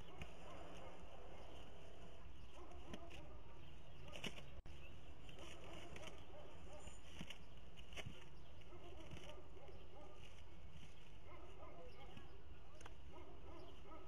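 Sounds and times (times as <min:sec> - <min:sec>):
birds rustling on nest sticks: 0:00.0 - 0:14.0.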